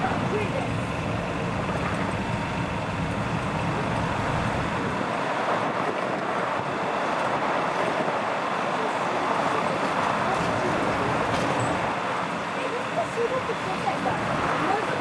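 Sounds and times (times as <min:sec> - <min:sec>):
higher vehicle noise: 0:00.0 - 0:15.0
vehicle low rumble: 0:00.0 - 0:15.0.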